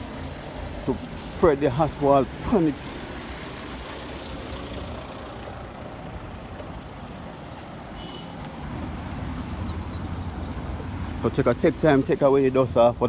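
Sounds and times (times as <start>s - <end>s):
truck engine rumbling: 0.0s - 7.9s, 8.5s - 13.0s.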